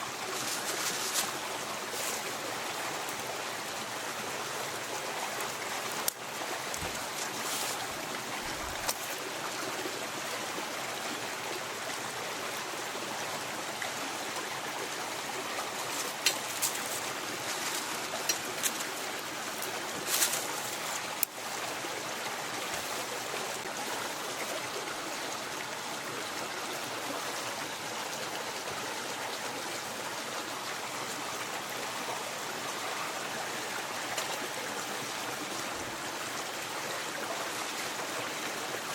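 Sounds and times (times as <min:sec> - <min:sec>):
mountain stream running: 0:00.0 - 0:38.9.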